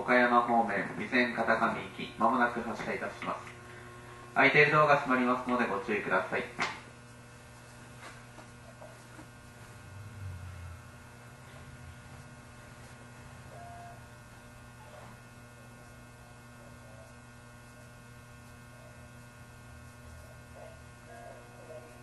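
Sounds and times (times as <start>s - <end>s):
train electrical hum: 0.0s - 22.0s.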